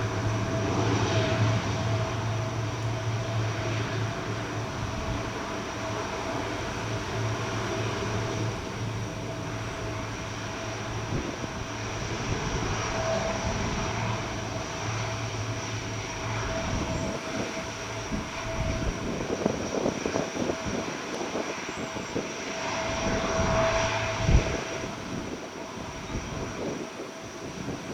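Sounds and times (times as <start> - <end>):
turboprop engines humming: 0.0 - 27.9
wind buffeting microphone: 0.0 - 27.9.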